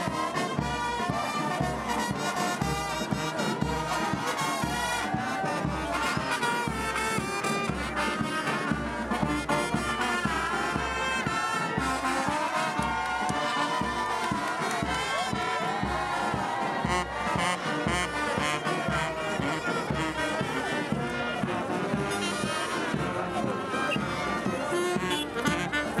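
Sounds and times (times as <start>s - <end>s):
brass music over a steady beat: 0.0s - 26.0s.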